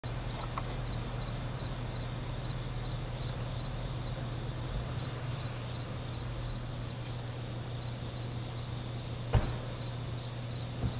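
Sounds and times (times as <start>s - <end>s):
high insect drone: 0.0s - 10.9s.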